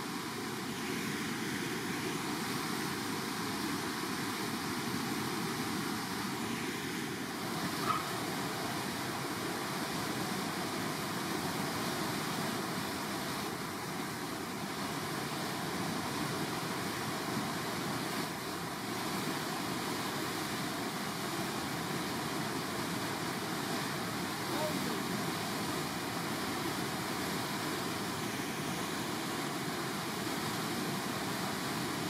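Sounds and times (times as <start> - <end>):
whitewater rushing: 0.0 - 32.0.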